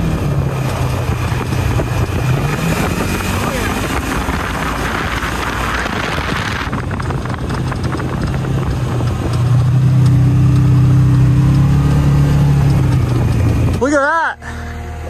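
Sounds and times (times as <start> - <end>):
off-road vehicle engine: 0.0 - 15.0
wind: 0.0 - 15.0.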